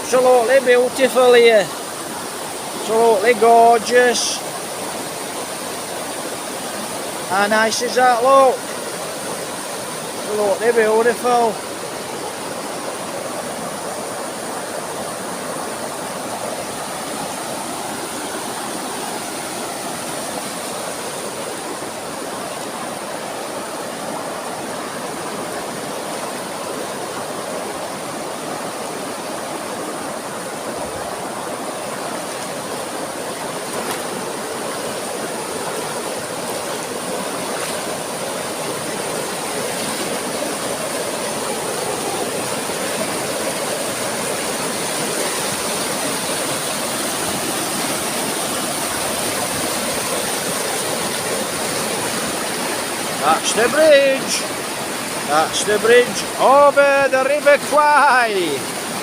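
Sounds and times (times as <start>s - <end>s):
waterfall and river rushing: 0.0s - 59.0s.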